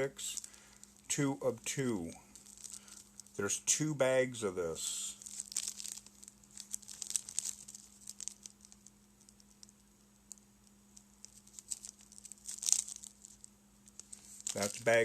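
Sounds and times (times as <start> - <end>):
plastic bags crinkling: 0.0 - 3.4, 5.1 - 10.4, 11.0 - 15.0.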